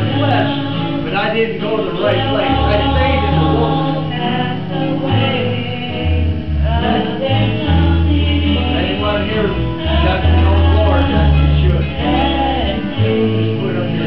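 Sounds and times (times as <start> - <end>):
strummed acoustic guitar: 0.0 - 14.0
woman singing into microphone: 0.0 - 14.0
deep bass line: 2.0 - 14.0.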